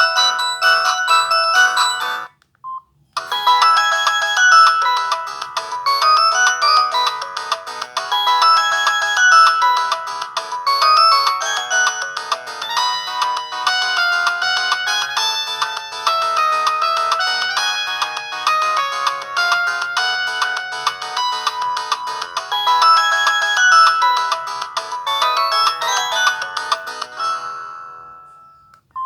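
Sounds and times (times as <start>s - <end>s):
polyphonic phone ringtone: 0.0s - 29.0s.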